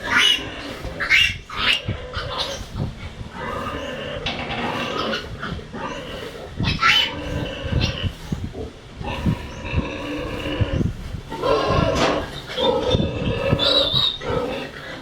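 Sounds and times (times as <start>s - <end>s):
farm animals calling: 0.0s - 15.0s.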